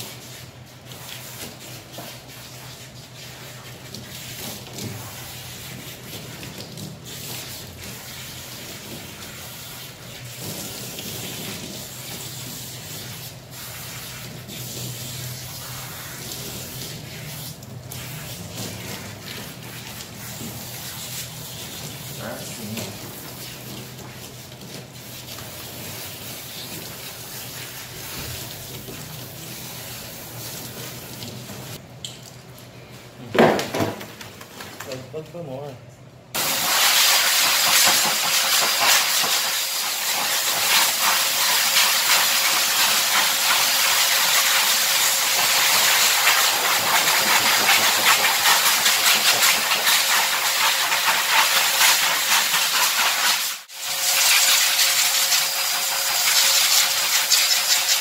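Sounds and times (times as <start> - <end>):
shower sprayer water hissing: 0.0 - 31.8, 36.3 - 58.0.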